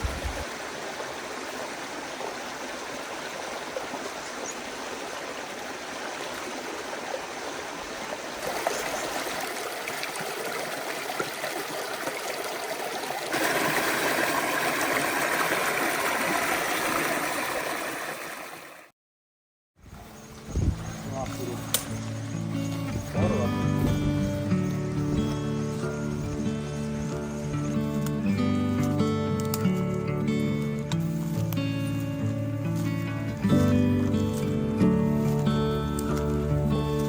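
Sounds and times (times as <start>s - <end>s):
creek water running over rocks: 0.0s - 18.9s, 20.0s - 37.0s.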